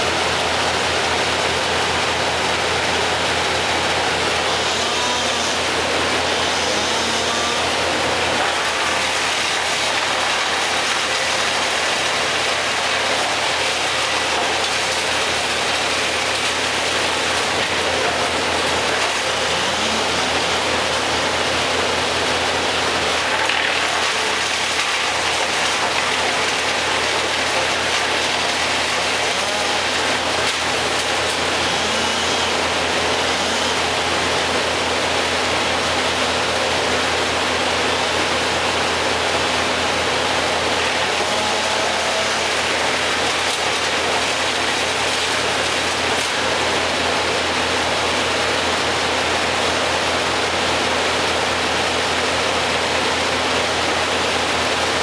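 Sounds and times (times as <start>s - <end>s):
heavy engine machinery rumbling: 0.0s - 54.9s.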